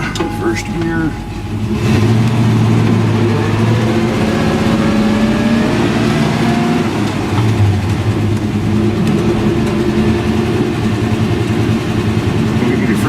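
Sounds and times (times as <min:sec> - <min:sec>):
rising whine: 0:00.0 - 0:13.0
truck engine pulling away: 0:00.0 - 0:13.0.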